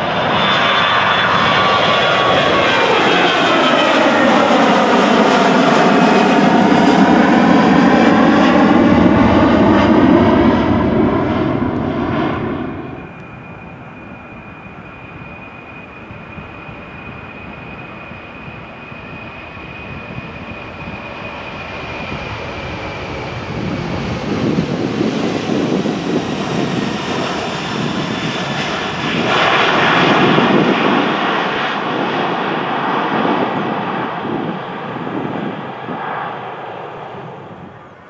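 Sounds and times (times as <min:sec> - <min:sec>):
distant jet engine rumble and whine: 0:00.0 - 0:38.0
jet engines at take-off thrust: 0:00.0 - 0:38.0.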